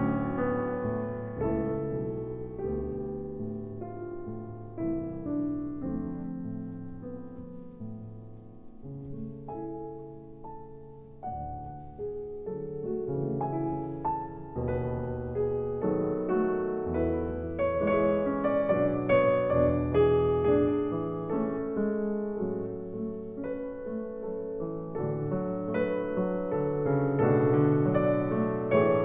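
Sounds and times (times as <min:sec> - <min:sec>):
slow solo piano music: 0:00.0 - 0:29.0.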